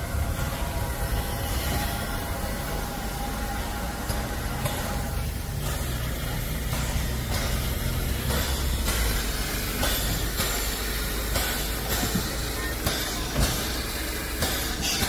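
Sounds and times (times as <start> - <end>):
steam locomotive rumble and hiss: 0.0 - 15.0.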